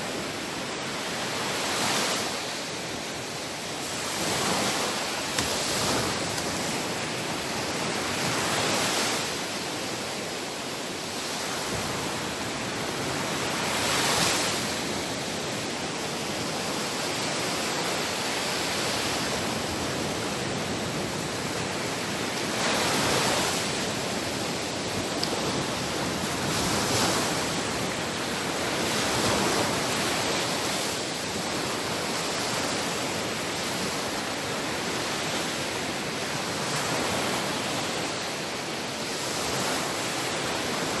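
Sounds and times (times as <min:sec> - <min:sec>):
sea waves breaking on shore: 0:00.0 - 0:41.0.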